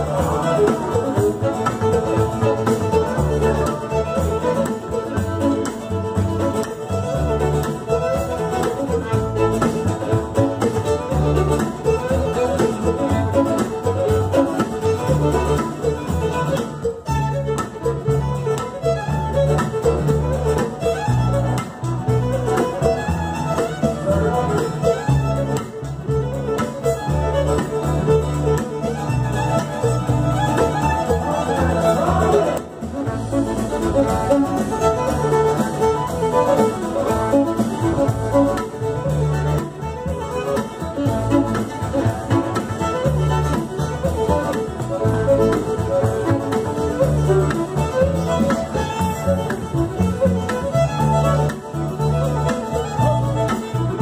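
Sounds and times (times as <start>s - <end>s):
fiddle melody: 0.0s - 54.0s
fiddle-led dance band: 0.0s - 54.0s
walking upright bass: 0.0s - 54.0s.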